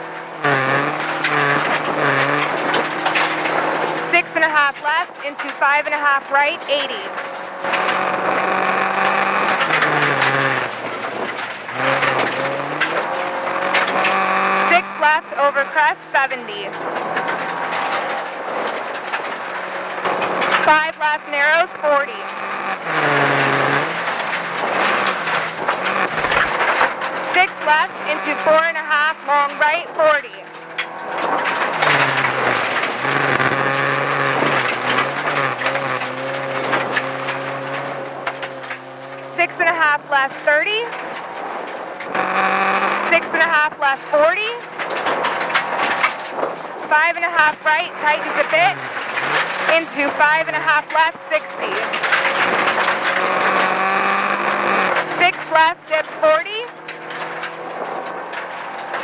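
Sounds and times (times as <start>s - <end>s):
rally car engine revving: 0.0s - 59.0s
tyres on gravel: 0.0s - 59.0s.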